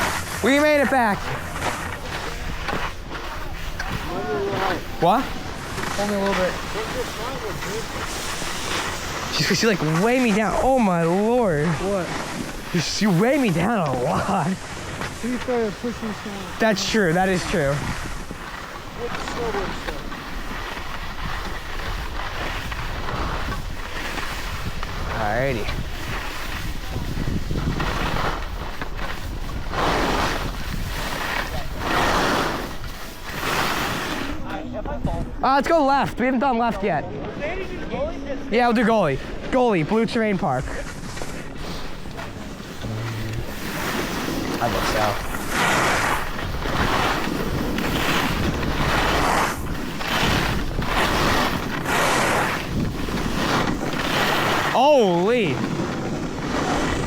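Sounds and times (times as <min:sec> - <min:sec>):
wind rushing over microphone: 0:00.0 - 0:35.8, 0:39.0 - 0:57.0
skis scraping over snow: 0:00.0 - 0:57.0.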